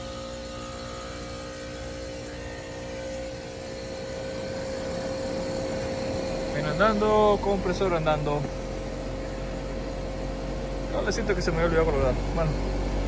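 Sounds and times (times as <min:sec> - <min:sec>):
air conditioner compressor humming: 0:00.0 - 0:13.0.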